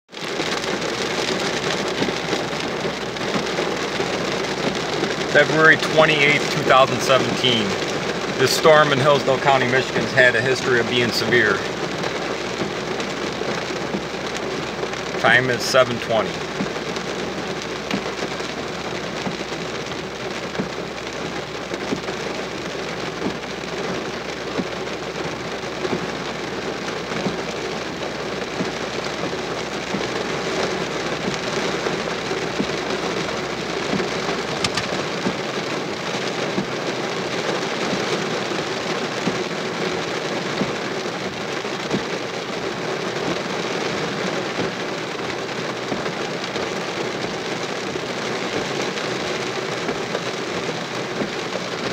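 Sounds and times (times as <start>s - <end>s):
heavy rain falling: 0.1s - 51.9s.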